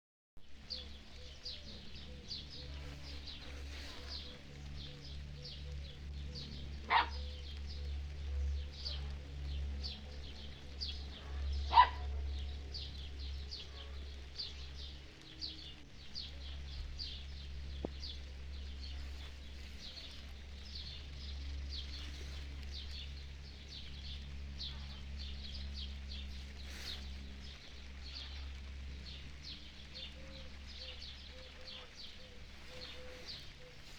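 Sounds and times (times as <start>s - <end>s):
small birds chirping: 0.4s - 33.9s
steady low rumble: 0.4s - 33.9s.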